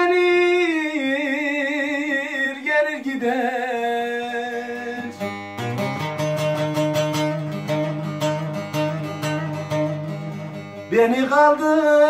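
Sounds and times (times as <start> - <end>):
long-necked lute strummed: 0.0 - 12.0
man singing with vibrato: 0.0 - 12.0.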